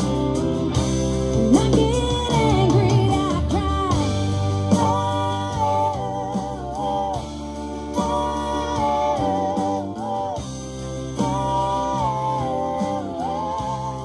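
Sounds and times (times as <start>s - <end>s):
drums: 0.0s - 14.0s
electric and acoustic guitars: 0.0s - 14.0s
woman singing: 1.4s - 10.4s, 11.1s - 14.0s.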